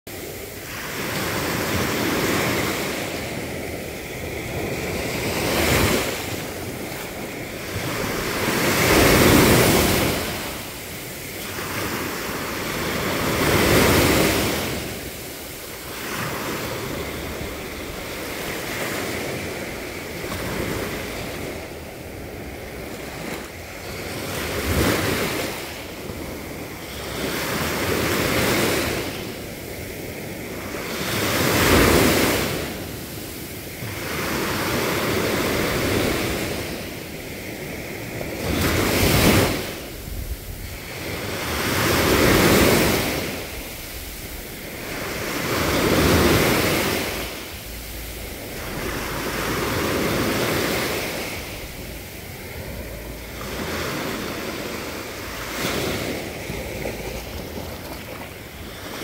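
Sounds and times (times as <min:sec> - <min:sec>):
small waves breaking on beach: 0:00.1 - 0:59.0.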